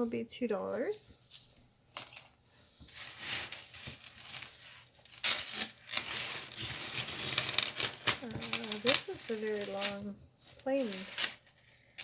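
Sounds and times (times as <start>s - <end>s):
jewelry rustling and scraping: 0.0s - 12.0s.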